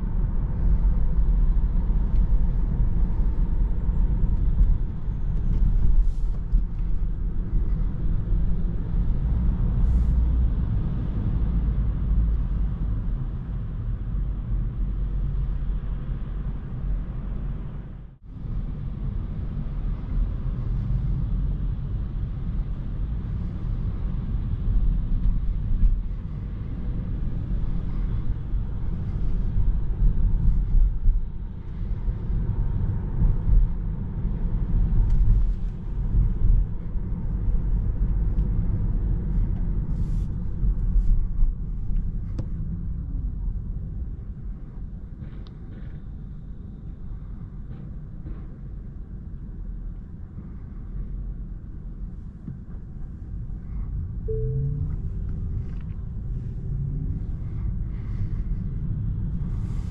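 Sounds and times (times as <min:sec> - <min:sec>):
road and tyre rumble in car: 0:00.0 - 0:59.9.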